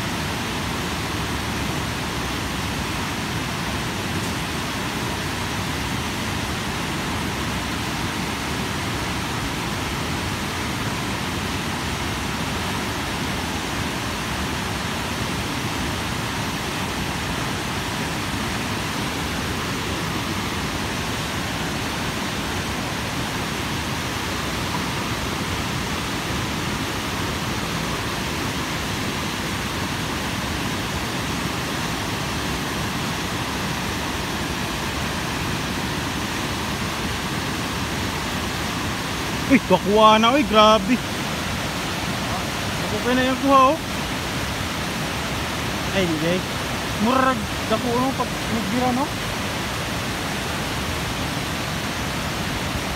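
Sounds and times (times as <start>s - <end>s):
water rushing over a spillway: 0.0s - 52.9s.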